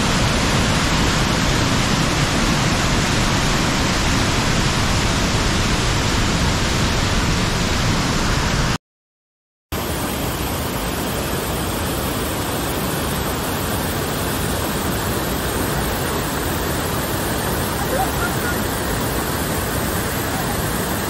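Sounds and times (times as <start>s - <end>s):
waterfall rushing over rocks: 0.0s - 8.8s, 9.8s - 21.0s.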